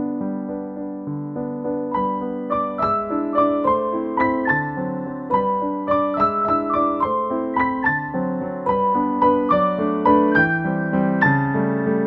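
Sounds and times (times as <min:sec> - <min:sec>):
flowing piano melody: 0:00.0 - 0:12.0.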